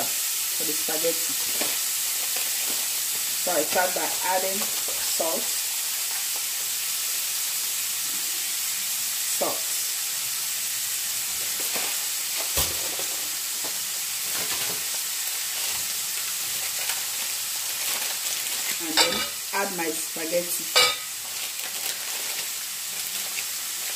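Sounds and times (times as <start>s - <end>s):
pancetta sizzling in a frying pan: 0.0s - 23.9s.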